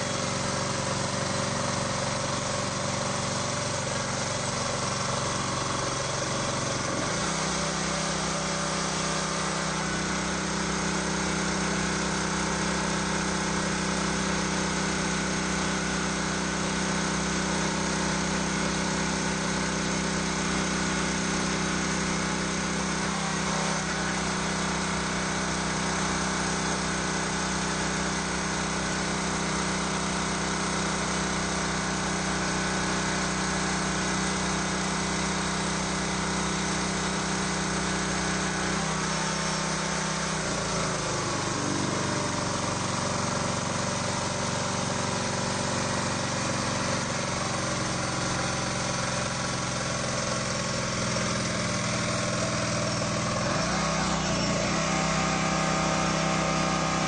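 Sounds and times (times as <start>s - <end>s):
log splitter engine running: 0.0s - 57.0s.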